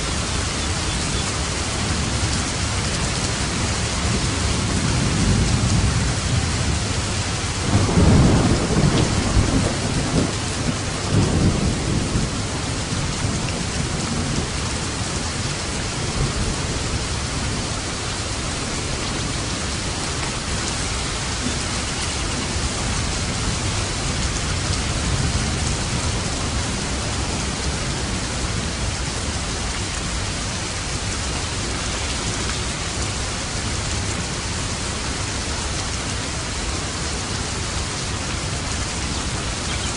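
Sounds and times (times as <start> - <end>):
heavy rain: 0.0 - 39.9
thunder rumble: 1.2 - 35.0.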